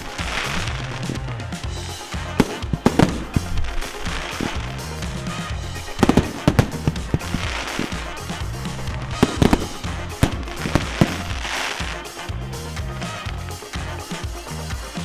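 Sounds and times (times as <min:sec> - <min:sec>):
fireworks bangs: 0:00.0 - 0:12.3
dance music: 0:00.0 - 0:15.0.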